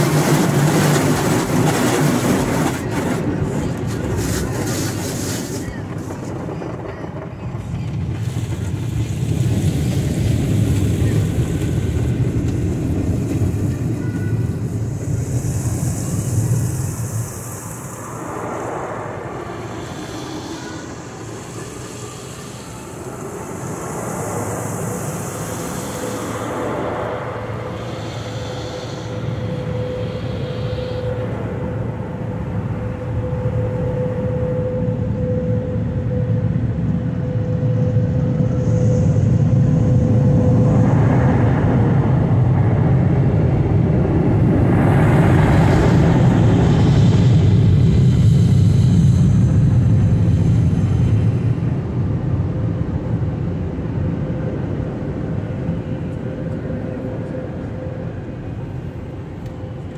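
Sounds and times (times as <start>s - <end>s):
dryer blowers humming: 0.0s - 52.1s
car wash machinery rumble: 0.0s - 59.9s.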